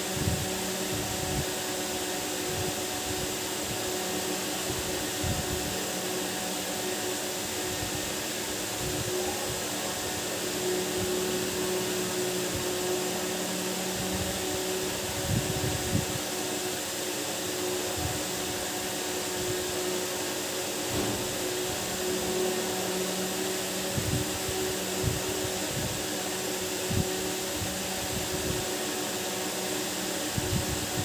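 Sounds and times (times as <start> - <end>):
fan whirring with low hum: 0.0 - 31.0.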